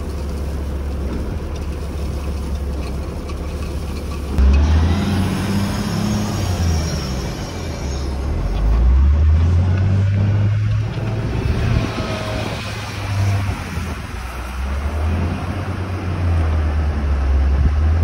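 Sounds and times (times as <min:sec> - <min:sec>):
heavy diesel engines: 0:00.0 - 0:18.0.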